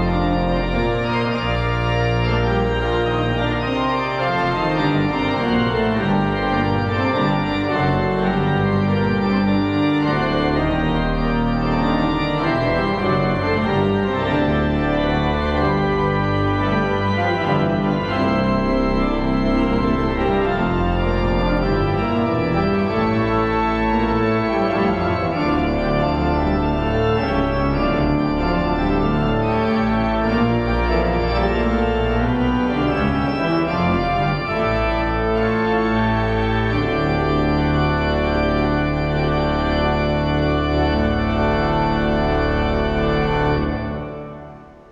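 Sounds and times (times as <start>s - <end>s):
organ chords: 0.0s - 44.9s.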